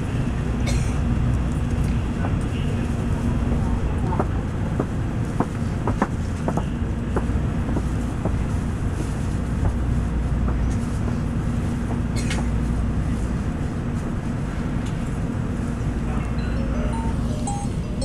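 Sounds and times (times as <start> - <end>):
train interior low rumble: 0.0 - 18.0.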